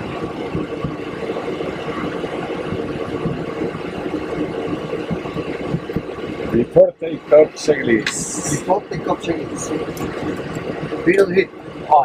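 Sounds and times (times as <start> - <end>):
jet engines idling hum: 0.0 - 12.0.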